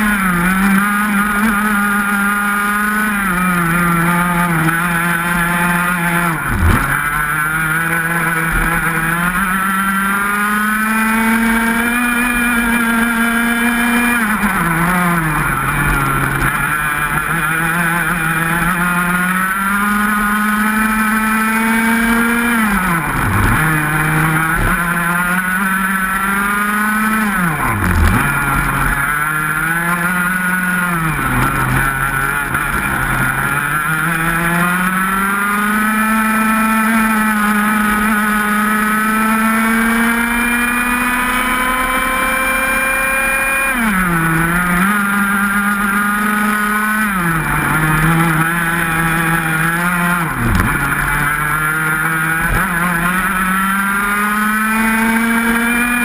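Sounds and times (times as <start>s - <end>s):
two-stroke kart engine racing: 0.0s - 56.0s.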